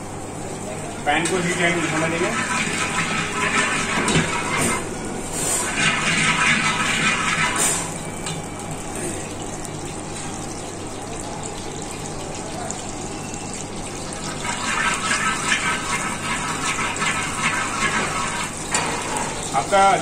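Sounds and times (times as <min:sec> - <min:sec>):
ghee sizzling and crackling: 0:01.4 - 0:20.0.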